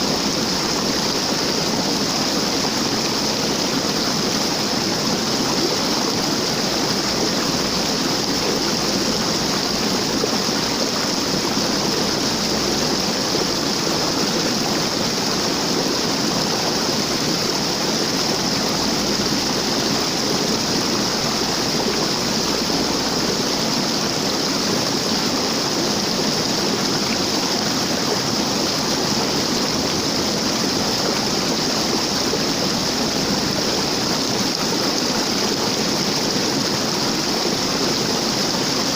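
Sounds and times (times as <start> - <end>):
waterfall rushing water: 0.0 - 38.9.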